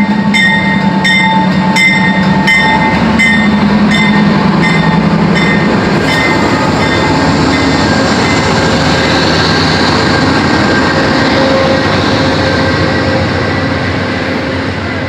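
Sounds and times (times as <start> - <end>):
train rolling past: 0.0 - 15.0.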